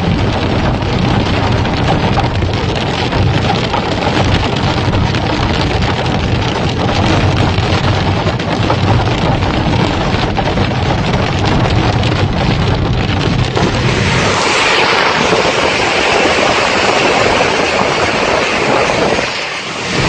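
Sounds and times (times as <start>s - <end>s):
heavy rain pouring: 0.0s - 20.0s
low rumble: 0.0s - 20.0s
wind buffeting microphone: 0.0s - 20.0s.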